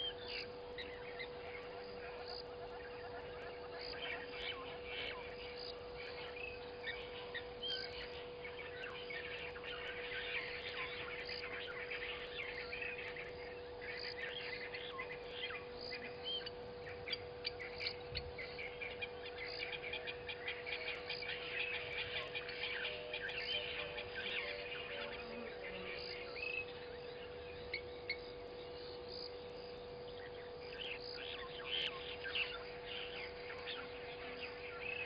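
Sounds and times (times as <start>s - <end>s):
many birds chirping: 0.0s - 35.0s
steady hum: 0.0s - 35.0s.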